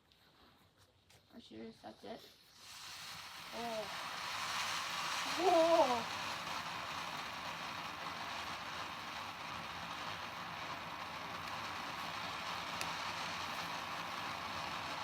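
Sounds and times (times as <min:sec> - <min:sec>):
ground fountain firework hissing: 0:01.4 - 0:15.0.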